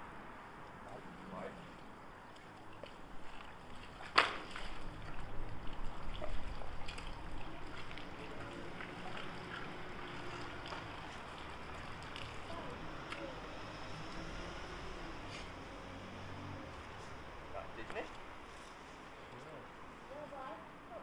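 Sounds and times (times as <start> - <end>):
water splashing and dribbling: 0.6 - 19.9.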